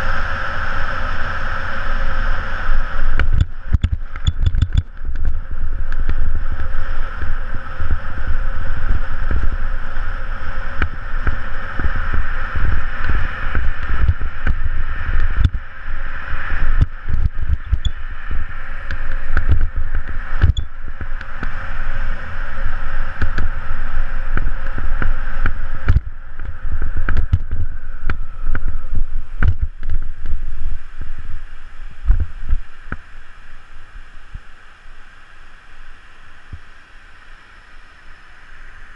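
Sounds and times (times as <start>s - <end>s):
wind buffeting microphone: 0.0s - 34.5s.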